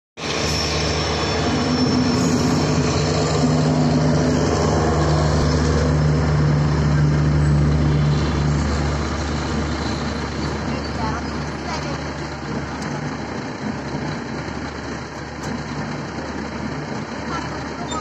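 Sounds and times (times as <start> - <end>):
diesel locomotive engine drone: 0.2 - 18.0
wheels rumbling on rail: 0.2 - 18.0.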